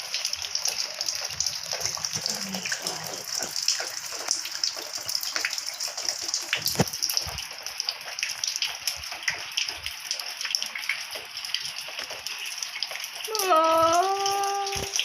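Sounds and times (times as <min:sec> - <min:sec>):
water dripping and splashing indoors: 0:00.0 - 0:15.0.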